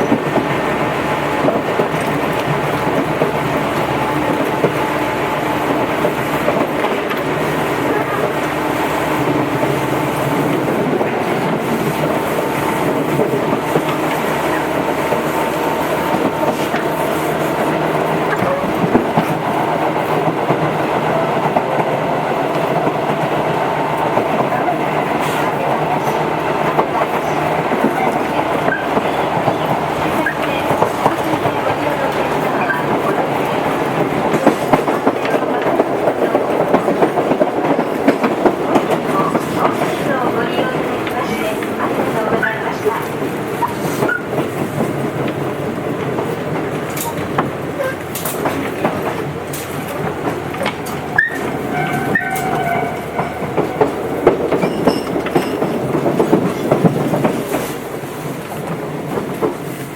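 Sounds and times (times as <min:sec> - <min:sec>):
rail-joint clickety-clack: 0:00.0 - 0:59.9
train motor hum: 0:00.0 - 0:59.9
train wheels rumbling on rail: 0:00.0 - 0:59.9.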